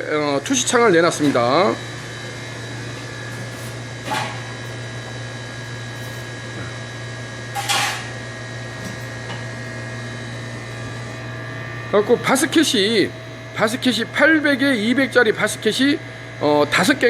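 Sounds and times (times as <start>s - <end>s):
grill machinery electric hum: 0.0s - 17.0s.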